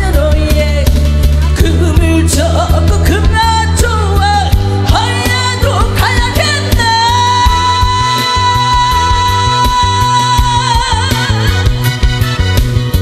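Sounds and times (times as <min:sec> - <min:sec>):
woman singing into a microphone: 0:00.0 - 0:12.0
pop ballad backing music: 0:00.0 - 0:13.0.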